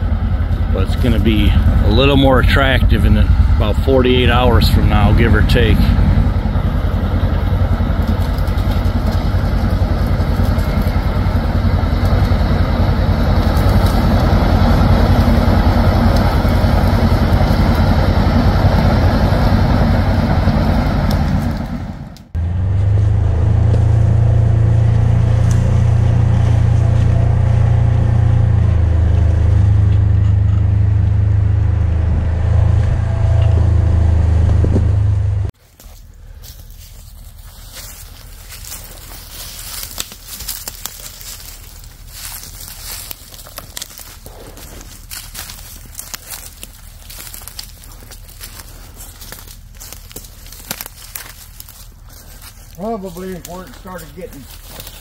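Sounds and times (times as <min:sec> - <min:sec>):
bulldozer diesel engine rattling: 0:00.0 - 0:55.0
utility vehicle engine drone: 0:00.0 - 0:55.0.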